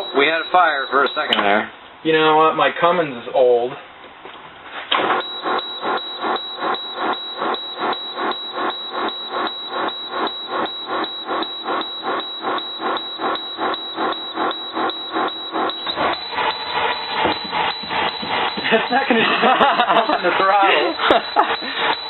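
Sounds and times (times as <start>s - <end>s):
starter cranking diesel engine: 0.0s - 1.4s, 4.9s - 22.0s.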